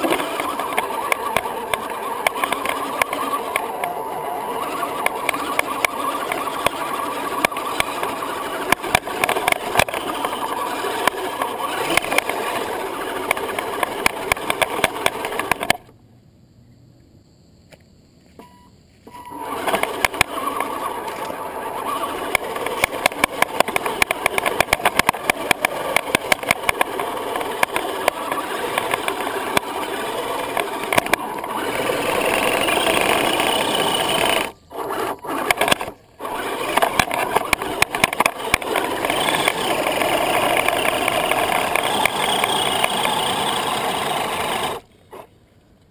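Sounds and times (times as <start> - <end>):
clicks and rattles over dirt: 0.0 - 15.9, 19.2 - 45.9
rc car motor and gears: 0.0 - 15.9, 19.1 - 45.3.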